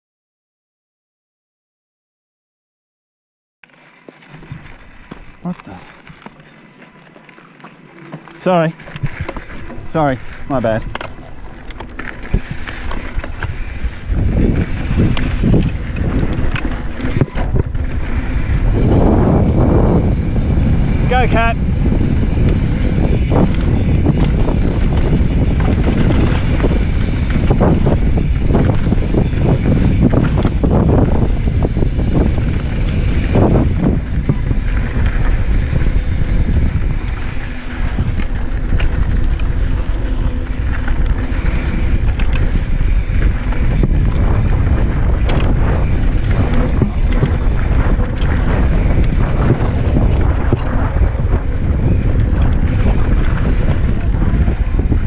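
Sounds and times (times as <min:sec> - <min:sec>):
tyres rumbling on dirt: 0:03.7 - 0:55.0
bike knocks and rattles: 0:03.9 - 0:55.0
wind buffeting microphone: 0:08.0 - 0:55.0.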